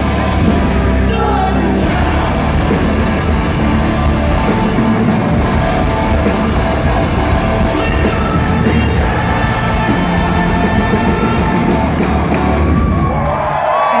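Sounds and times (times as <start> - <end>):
sung and yelled vocals: 0.0 - 4.2, 6.0 - 13.2
live rock band playing loud: 0.0 - 13.2.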